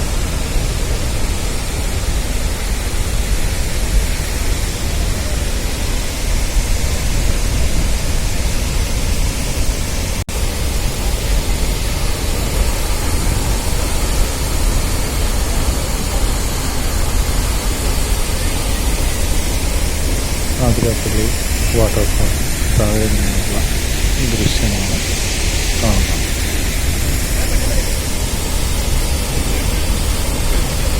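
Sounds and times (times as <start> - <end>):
waterfall roaring: 0.0 - 30.9.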